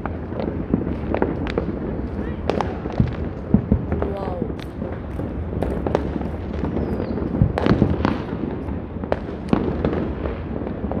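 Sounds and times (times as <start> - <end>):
distant fireworks rumble: 0.0 - 11.0
fireworks cracks and pops: 0.0 - 11.0.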